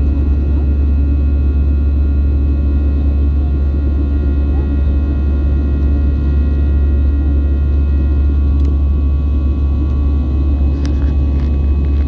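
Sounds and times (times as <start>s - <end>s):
jet engine rumble and whine: 0.0s - 12.0s.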